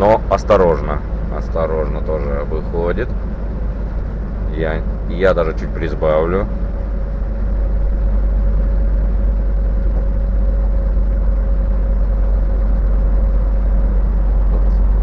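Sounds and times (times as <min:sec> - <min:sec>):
faint steady whine: 0:00.0 - 0:15.0
road noise: 0:00.0 - 0:15.0
truck engine drone: 0:00.0 - 0:15.0.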